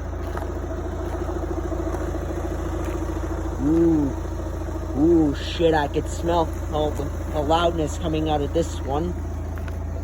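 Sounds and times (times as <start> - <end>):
diesel car engine idling: 0.0 - 10.0.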